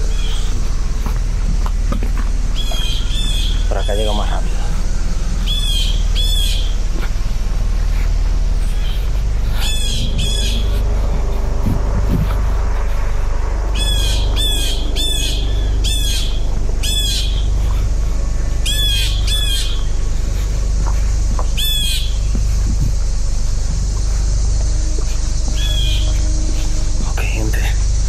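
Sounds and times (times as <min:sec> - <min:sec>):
bird squawking: 0:00.0 - 0:27.9
low rumble: 0:00.0 - 0:28.0.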